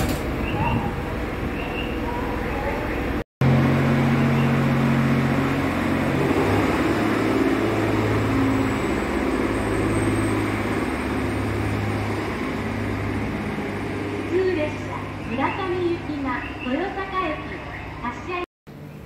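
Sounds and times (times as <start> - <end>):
diesel railcar engine droning: 0.0 - 19.0.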